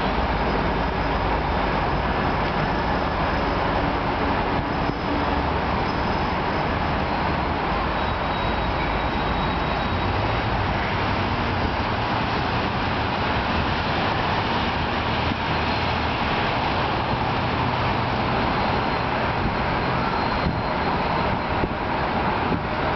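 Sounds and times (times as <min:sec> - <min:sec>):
train rumble: 0:00.0 - 0:22.9.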